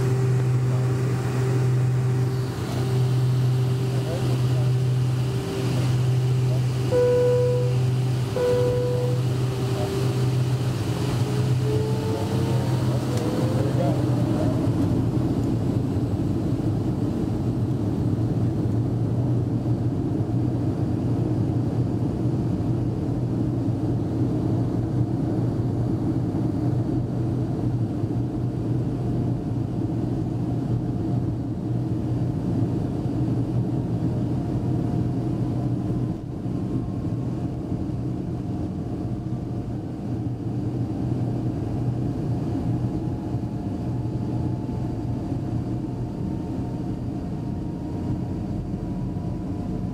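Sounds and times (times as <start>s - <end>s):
jet engines humming with whine: 0.0s - 49.9s.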